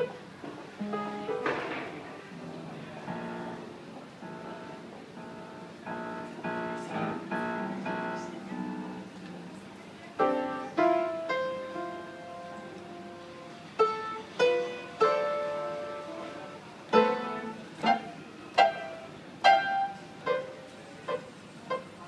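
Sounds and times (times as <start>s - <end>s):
piano notes and chords: 0.0s - 22.0s.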